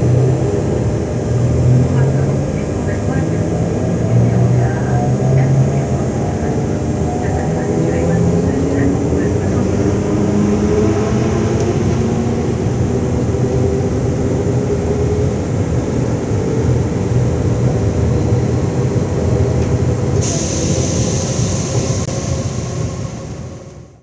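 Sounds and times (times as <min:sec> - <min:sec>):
steady humming tones: 0:00.0 - 0:20.2
electric train rumble: 0:00.0 - 0:24.0.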